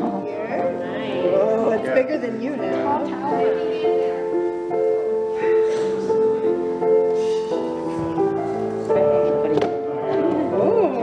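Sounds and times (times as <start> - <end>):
keyboard playing slow chords: 0.0 - 11.0.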